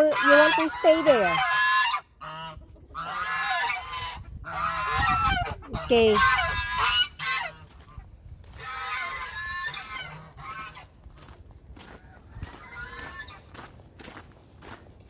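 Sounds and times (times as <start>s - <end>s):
geese honking: 0.0s - 11.0s, 12.0s - 13.6s.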